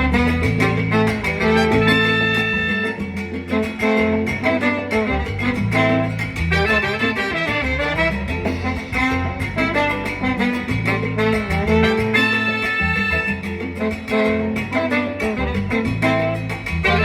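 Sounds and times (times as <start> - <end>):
live salsa band playing: 0.0 - 17.0.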